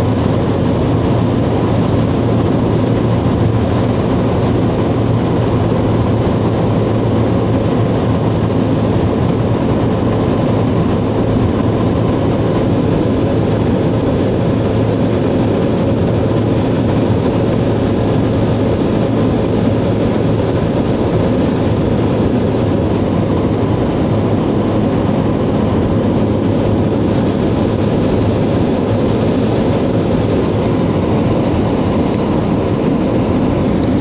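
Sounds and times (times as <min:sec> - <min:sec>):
road noise inside a car: 0:00.0 - 0:34.0.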